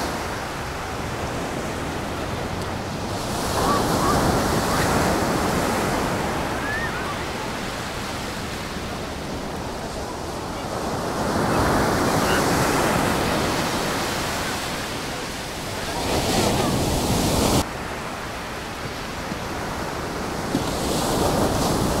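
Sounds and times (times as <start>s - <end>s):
waves breaking on a beach: 0.0s - 22.0s.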